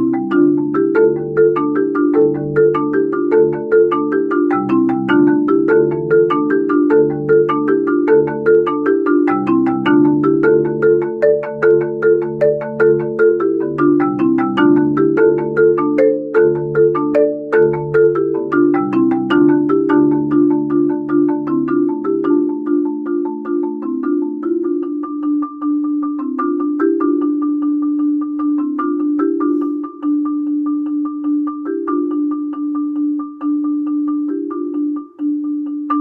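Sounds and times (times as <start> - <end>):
marimba playing: 0.0 - 36.0.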